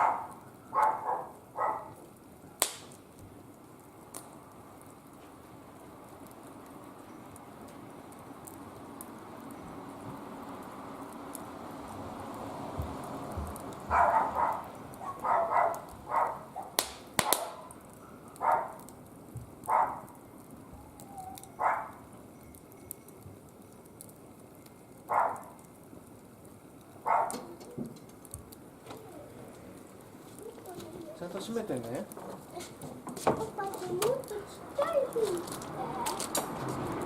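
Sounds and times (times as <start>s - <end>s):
wood fire burning: 0.0s - 37.0s
fire pops: 1.8s - 37.0s.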